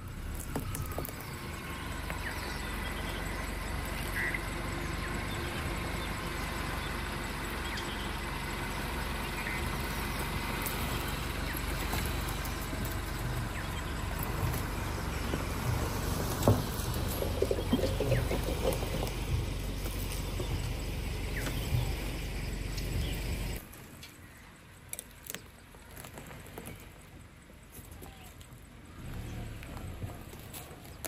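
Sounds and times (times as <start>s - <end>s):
car engine idling: 0.0s - 27.7s.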